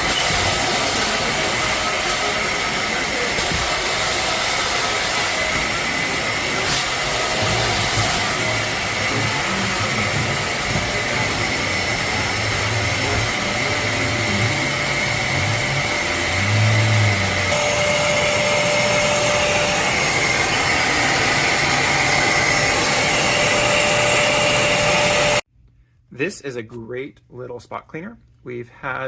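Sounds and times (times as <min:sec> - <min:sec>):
spot cleaner suction motor: 0:00.0 - 0:25.5.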